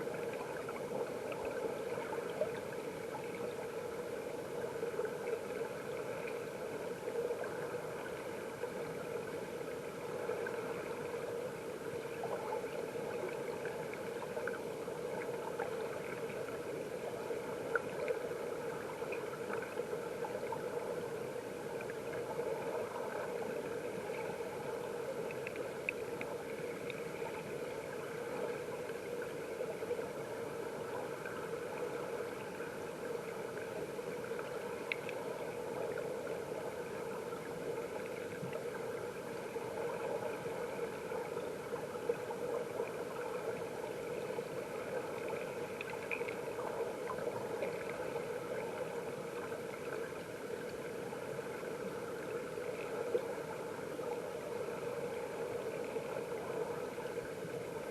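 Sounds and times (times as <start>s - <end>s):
muffled underwater stream rush: 0.0s - 57.9s.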